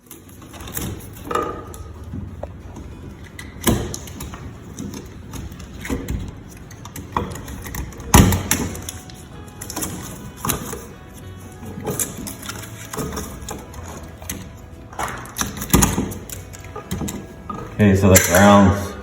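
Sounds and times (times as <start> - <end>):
objects knocking and clattering: 0.0 - 18.6.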